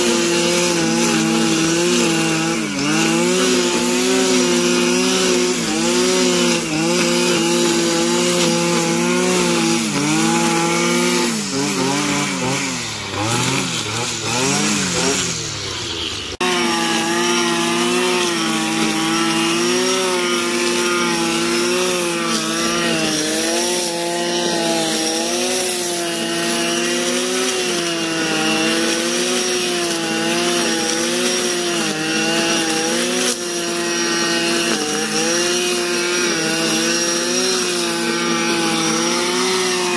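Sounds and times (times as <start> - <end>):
brushcutter cutting grass: 0.0 - 39.9.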